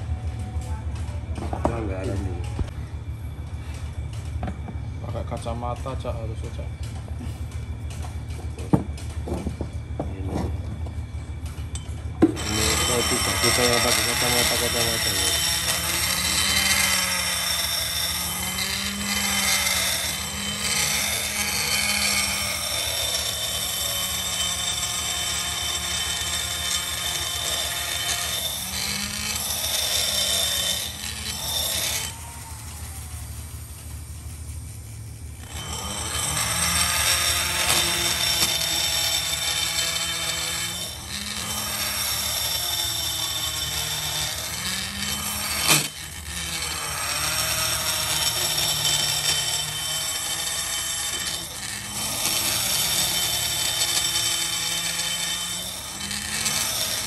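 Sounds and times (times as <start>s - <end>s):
rotary grinder grinding metal: 5.0s - 57.0s.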